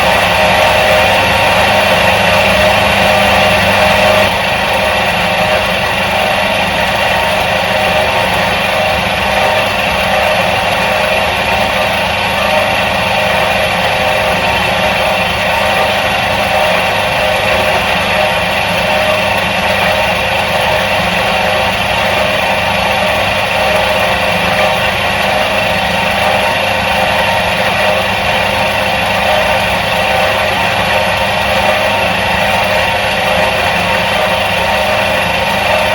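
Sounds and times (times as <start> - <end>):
electric motor humming: 0.0 - 35.9.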